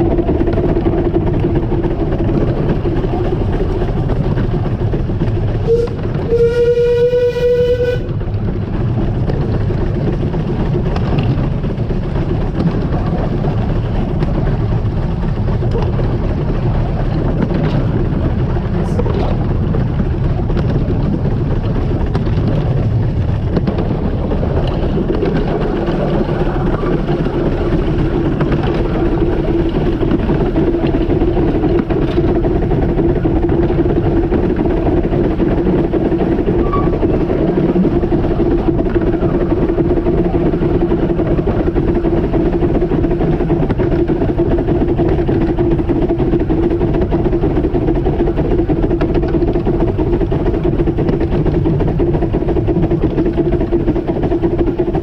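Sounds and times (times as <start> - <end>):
steam train running: 0.0 - 55.0.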